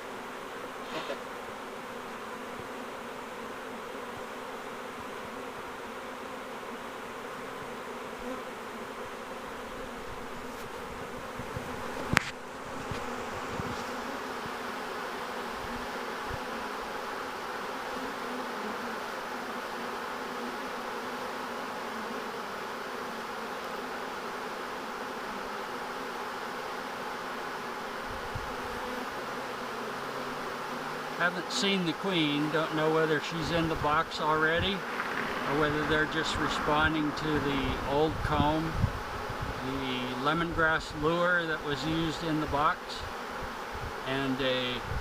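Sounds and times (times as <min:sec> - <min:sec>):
bee swarm buzzing: 0:00.0 - 0:45.0.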